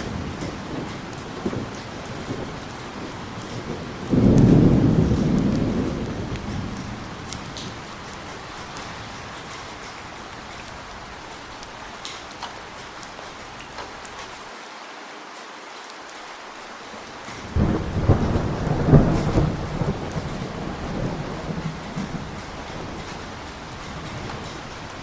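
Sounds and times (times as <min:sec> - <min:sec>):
thunderclap rumbling: 0:00.0 - 0:14.4, 0:17.2 - 0:25.0
steady rain: 0:00.0 - 0:25.0.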